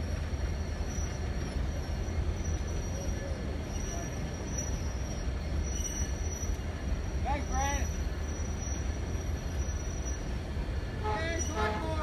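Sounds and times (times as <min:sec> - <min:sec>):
train wheels rumbling on rail: 0:00.0 - 0:12.0
high-pitched wheel squeal: 0:00.5 - 0:12.0.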